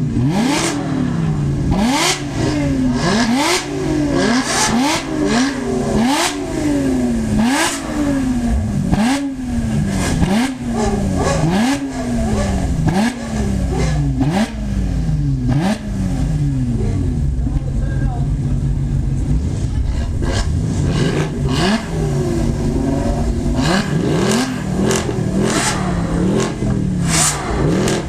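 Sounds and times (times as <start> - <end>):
car engine revving hard: 0.0 - 17.4, 19.2 - 28.0
exhaust crackle: 0.0 - 28.0.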